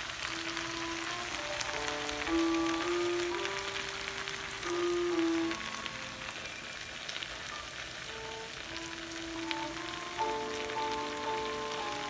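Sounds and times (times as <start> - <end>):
background music with held notes: 0.0 - 12.0
potatoes and onions sizzling in oil: 0.0 - 12.0.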